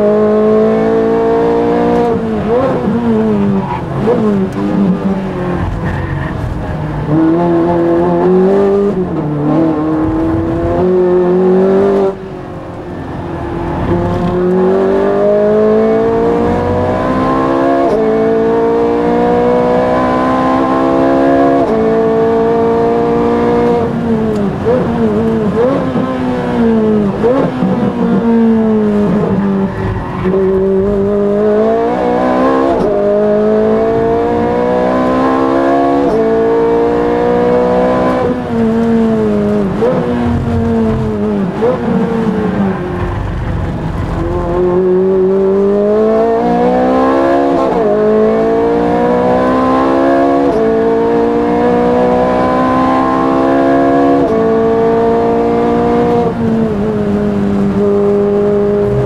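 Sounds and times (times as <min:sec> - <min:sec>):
car engine revving through gears: 0:00.0 - 0:59.0.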